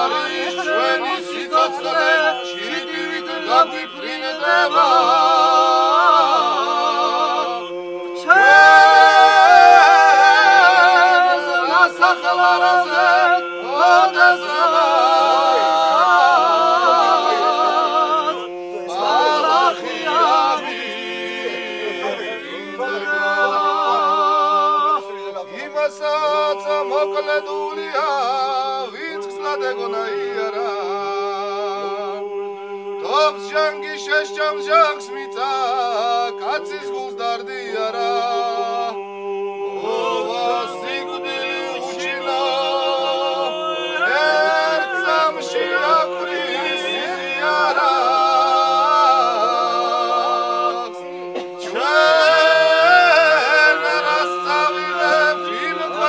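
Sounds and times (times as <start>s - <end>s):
men singing in parts: 0.0s - 56.0s.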